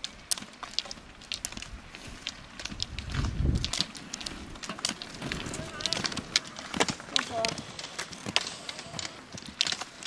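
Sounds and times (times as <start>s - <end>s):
ski poles clicking on asphalt: 0.0s - 10.0s.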